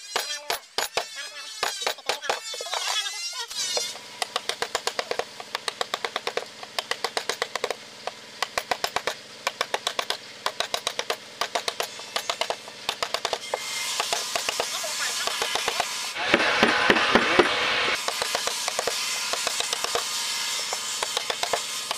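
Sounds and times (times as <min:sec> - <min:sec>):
mallet tapping chisel into wood: 0:00.2 - 0:02.9, 0:04.2 - 0:07.8, 0:08.4 - 0:20.1, 0:20.7 - 0:21.9.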